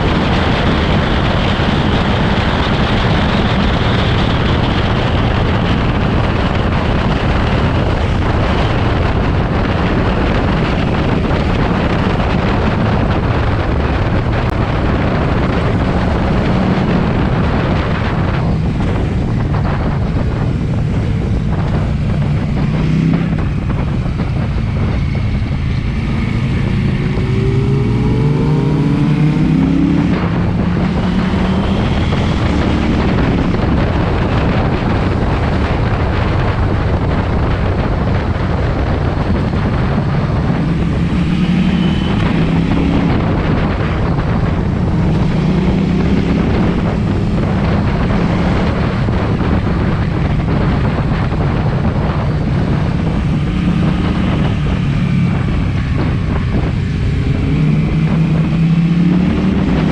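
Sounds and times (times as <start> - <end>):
motorcycle engine under way: 0.0 - 59.9
wind noise on microphone: 0.0 - 59.9.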